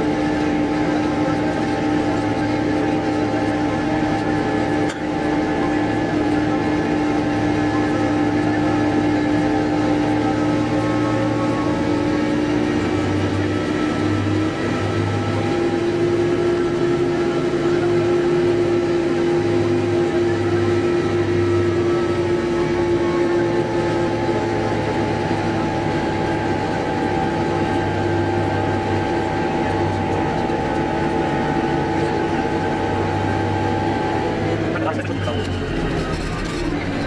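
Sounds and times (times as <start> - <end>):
diesel engine running: 0.0 - 37.0
higher whine: 0.0 - 37.0
steady whine: 0.0 - 37.0.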